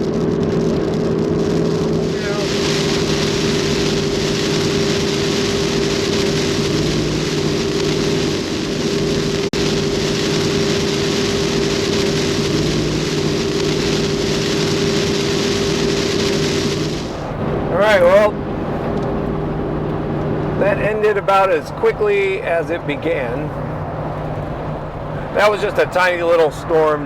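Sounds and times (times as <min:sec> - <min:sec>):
low vehicle drone: 0:00.0 - 0:27.0
heavy rain hissing on a car: 0:02.1 - 0:26.9.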